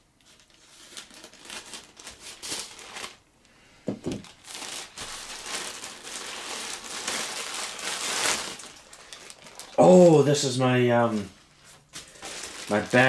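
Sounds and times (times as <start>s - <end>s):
packaging crinkling and rustling: 0.2s - 3.2s, 3.9s - 13.0s.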